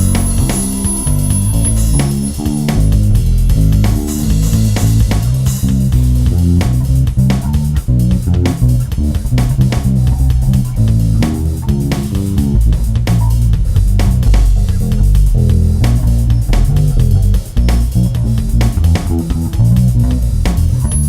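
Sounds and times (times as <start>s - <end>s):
bass guitar solo: 0.0s - 21.0s.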